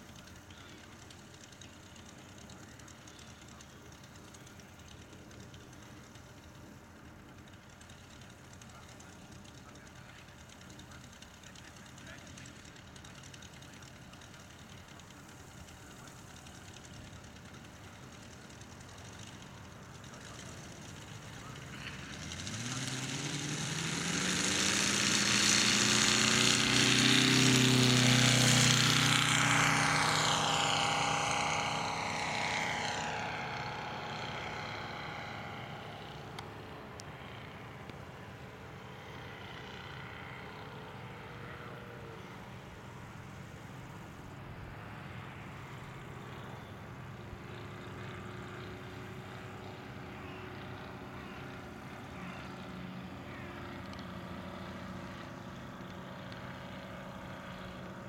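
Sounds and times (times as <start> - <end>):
model aircraft engine at full throttle: 0.0 - 58.0.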